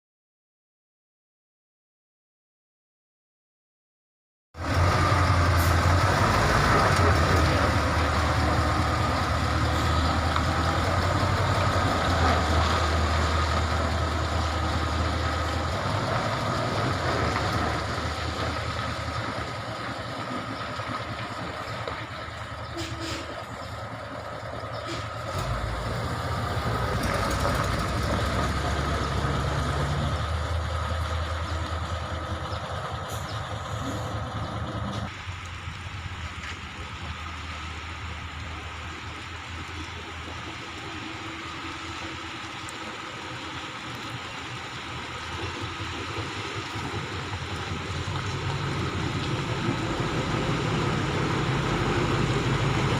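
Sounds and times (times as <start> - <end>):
heavy diesel truck engine: 4.6 - 52.9.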